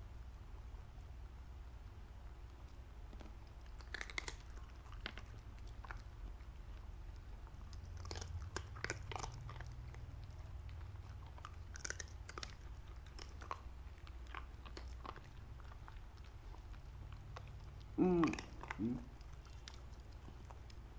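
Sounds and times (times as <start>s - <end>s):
low steady hum: 0.0s - 20.9s
dog crunching chips: 3.1s - 20.9s.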